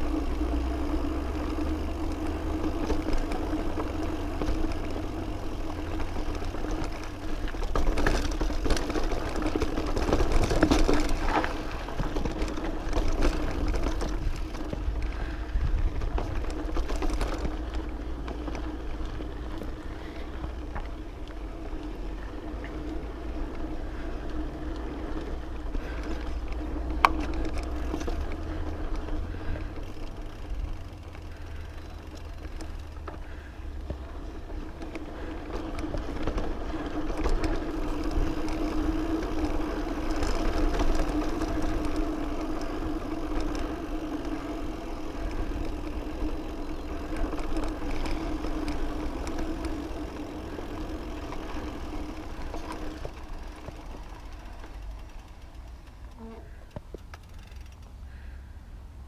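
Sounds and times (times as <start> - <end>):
bike rattles and clicks: 0.0 - 58.6
bike tyres rolling on dirt trail: 0.0 - 58.9.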